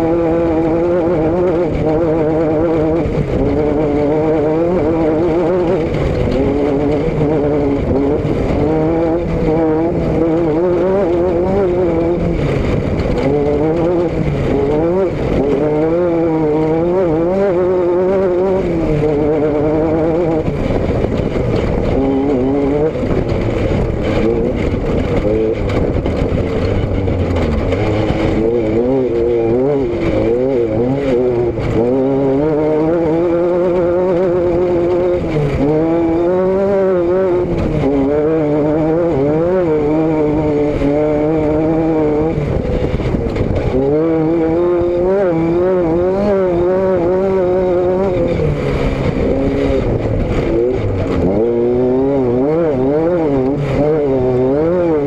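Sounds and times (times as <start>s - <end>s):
steady rushing noise: 0.0s - 55.0s
vehicle engine revving: 0.0s - 55.0s.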